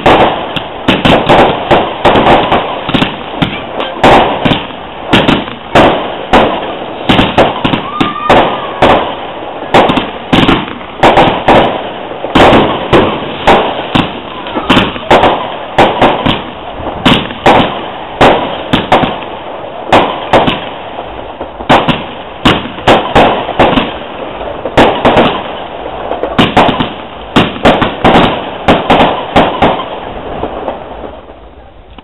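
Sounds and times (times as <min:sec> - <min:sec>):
fireworks bangs with echo: 0:00.0 - 0:32.0.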